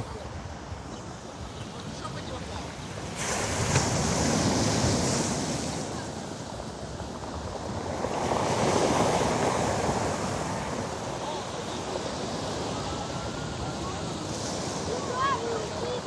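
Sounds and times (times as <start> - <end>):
waves crashing on pebble beach: 1.9 - 16.0.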